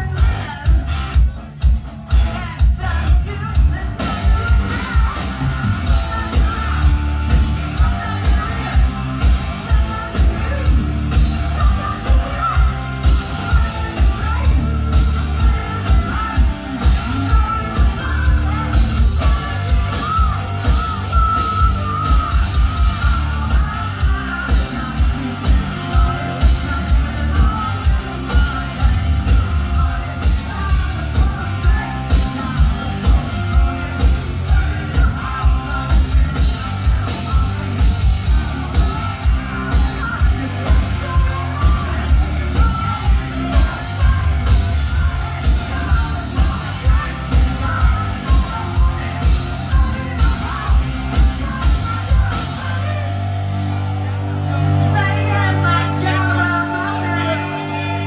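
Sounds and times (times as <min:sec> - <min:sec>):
bass guitar: 0:00.0 - 0:58.0
electric guitars: 0:00.0 - 0:58.0
person singing and yelling: 0:02.2 - 0:58.0.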